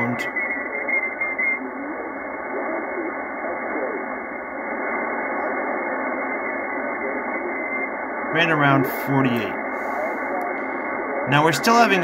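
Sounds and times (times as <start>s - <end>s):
faint radio speech: 0.0s - 12.0s
radio band hiss: 0.0s - 12.0s.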